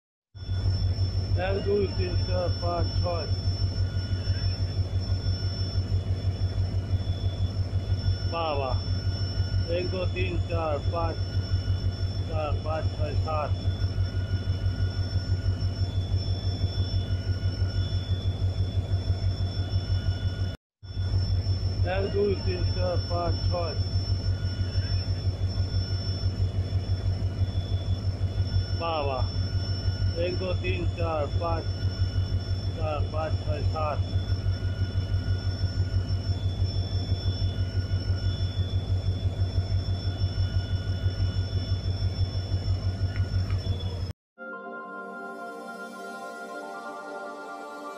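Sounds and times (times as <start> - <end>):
faint whining tones: 0.4 - 44.1
locomotive engine throbbing: 0.5 - 44.1.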